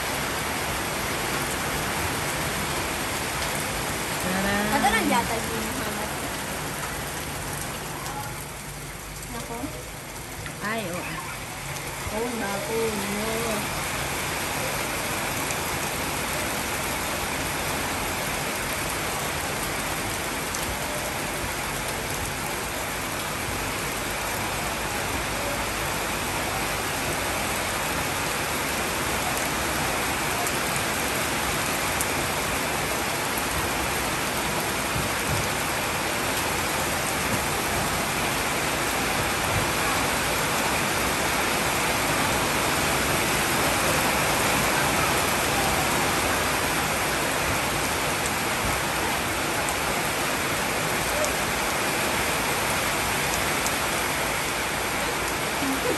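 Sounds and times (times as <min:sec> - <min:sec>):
rain falling on leaves: 0:00.0 - 0:55.9.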